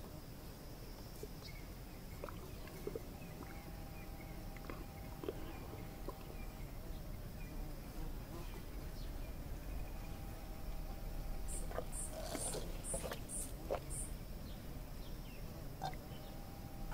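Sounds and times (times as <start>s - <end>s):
insects buzzing: 0.0s - 16.9s.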